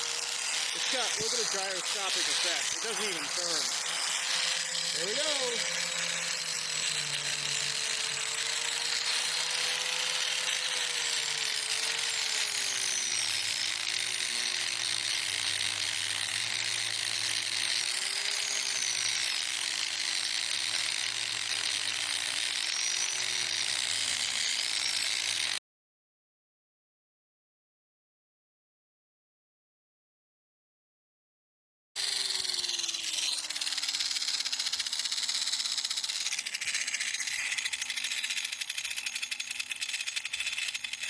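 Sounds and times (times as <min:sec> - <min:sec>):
angle grinder grinding wood: 0:00.0 - 0:25.6, 0:32.0 - 0:41.0.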